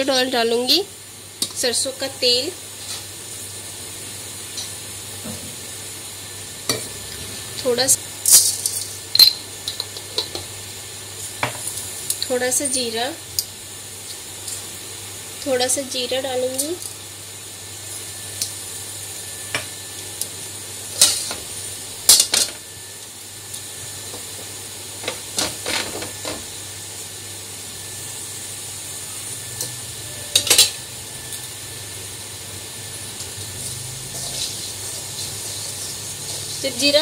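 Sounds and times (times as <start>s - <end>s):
seeds sizzling in hot oil: 0.0s - 37.0s.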